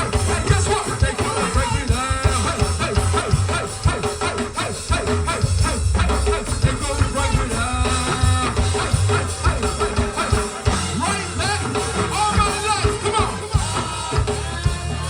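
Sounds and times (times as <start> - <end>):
deep bass line: 0.0 - 15.0
drum kit hits: 0.0 - 15.0
gospel band playing: 0.0 - 15.0.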